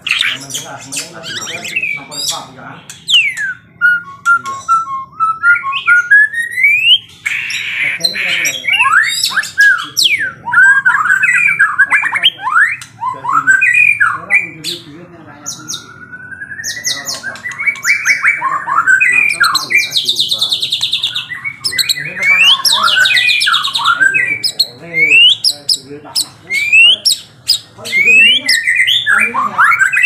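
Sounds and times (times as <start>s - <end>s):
bird trill: 0.0s - 30.0s
songbirds singing: 0.0s - 30.0s.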